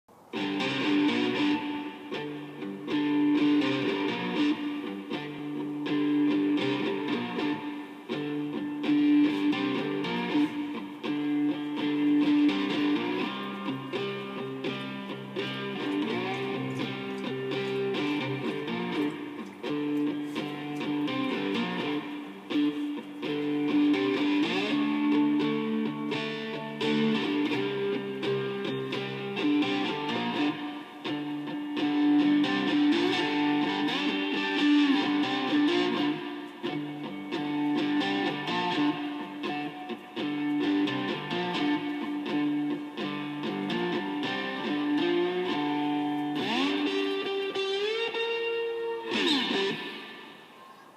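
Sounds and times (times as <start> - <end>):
plucked string instrument melody: 0.4 - 50.5.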